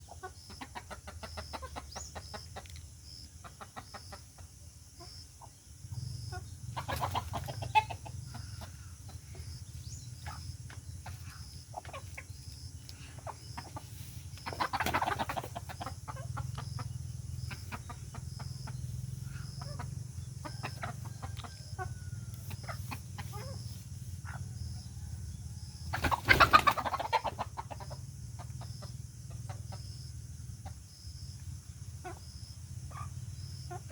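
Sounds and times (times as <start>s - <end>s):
chicken clucking: 0.0s - 31.0s, 32.0s - 33.9s.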